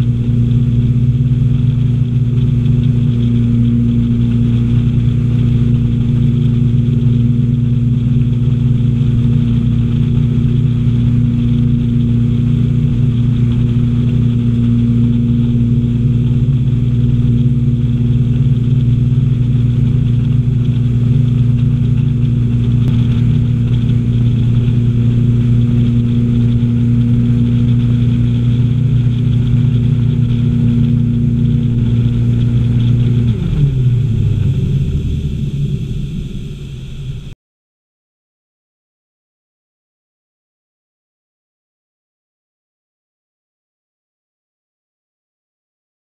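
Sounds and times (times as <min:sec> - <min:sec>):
wind noise: 0:00.0 - 0:37.3
boat engine running: 0:00.0 - 0:37.4
water noise: 0:00.0 - 0:37.4.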